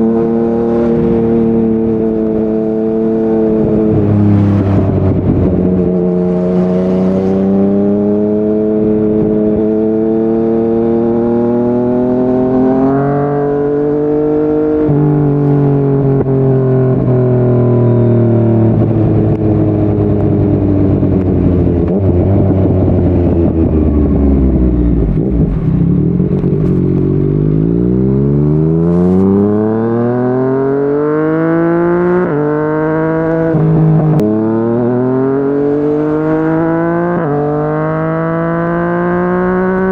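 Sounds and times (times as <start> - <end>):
motorcycle engine upshifting: 0.0 - 39.9.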